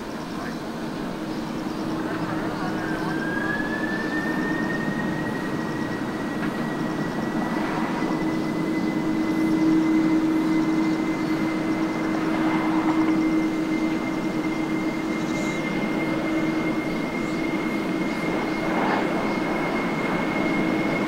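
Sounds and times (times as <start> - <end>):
jet engines droning: 0.0 - 21.0
rising engine whine: 1.6 - 21.0.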